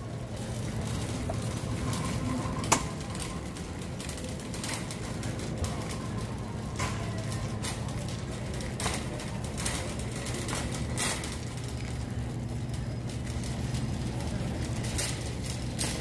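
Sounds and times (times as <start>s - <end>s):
shopping cart rattling on concrete: 0.0s - 16.0s.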